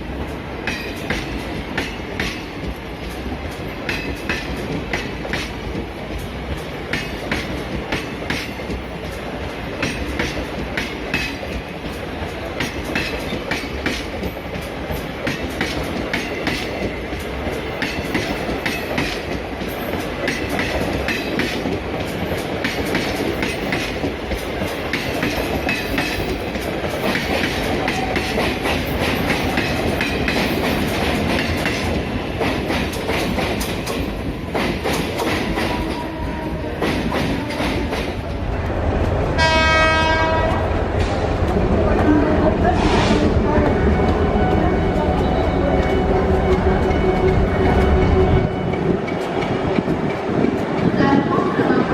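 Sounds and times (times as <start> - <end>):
train wheels clattering over rails: 0.0 - 51.9.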